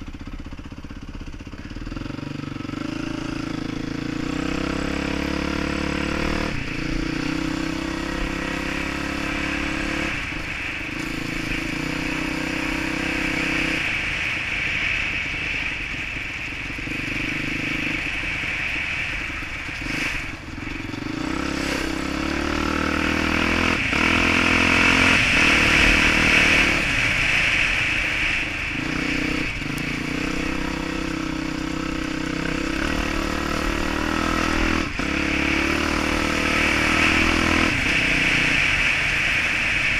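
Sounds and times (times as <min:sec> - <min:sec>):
rushing wind and ground noise: 0:00.0 - 0:39.9
dirt bike engine revving: 0:01.8 - 0:14.2, 0:14.8 - 0:39.4.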